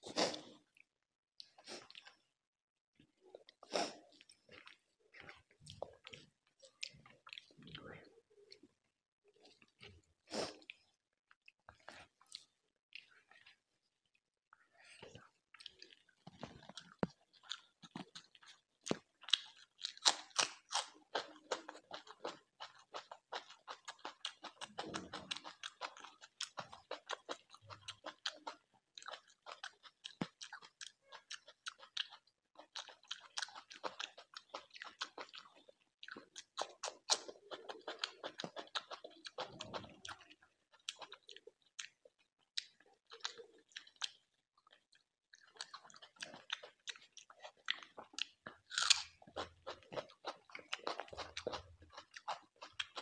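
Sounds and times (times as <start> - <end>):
person chewing and crunching: 3.2 - 8.6, 15.0 - 53.0.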